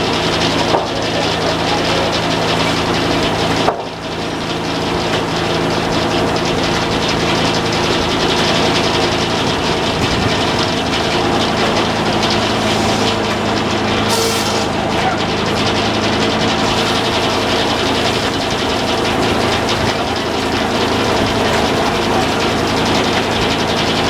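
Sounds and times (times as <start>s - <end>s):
loud even whirring: 0.0s - 24.0s
sawmill engine drone: 0.0s - 24.0s.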